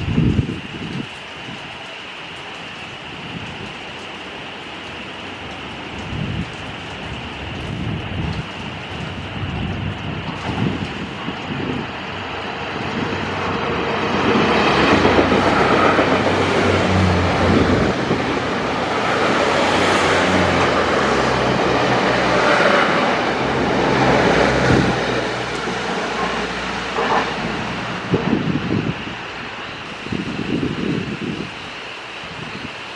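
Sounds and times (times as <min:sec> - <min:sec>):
train rail noise: 0:00.0 - 0:32.9.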